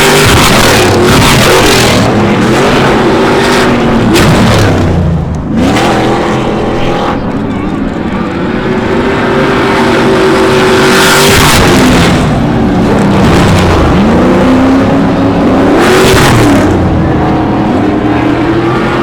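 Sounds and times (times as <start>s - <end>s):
loud rushing bursts: 0.0s - 7.3s, 8.6s - 19.0s
truck engines revving: 0.0s - 19.0s.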